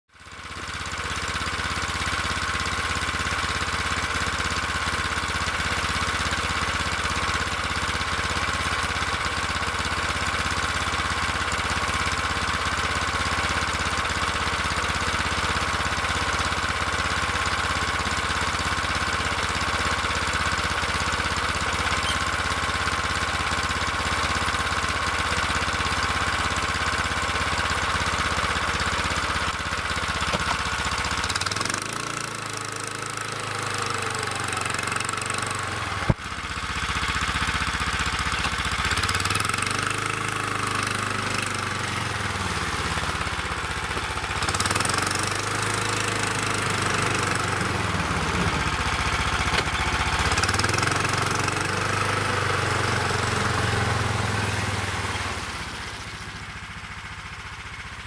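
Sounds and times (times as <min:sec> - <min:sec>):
snowmobile engine running: 0:01.2 - 0:36.4, 0:37.0 - 0:56.4.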